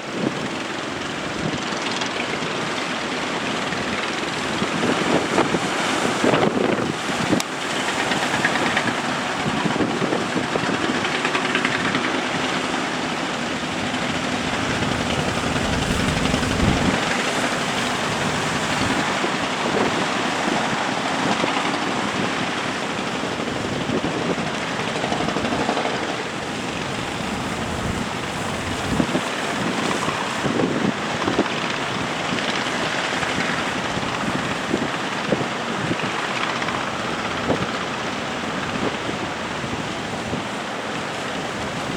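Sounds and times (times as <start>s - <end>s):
boat engine running: 0.0s - 41.9s
surf: 0.0s - 41.9s
wind noise on microphone: 0.0s - 41.9s.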